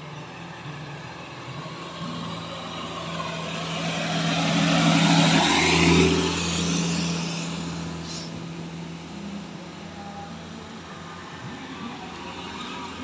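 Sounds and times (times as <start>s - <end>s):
diesel truck engine labouring uphill: 0.0s - 13.0s.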